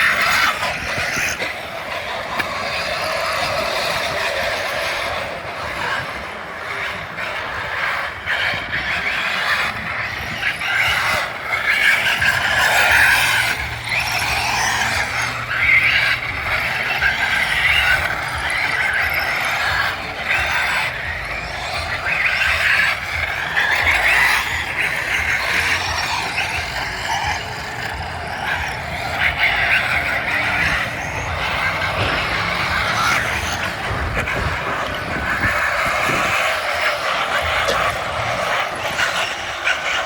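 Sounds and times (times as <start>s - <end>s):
rc car motors whining: 0.0s - 40.0s.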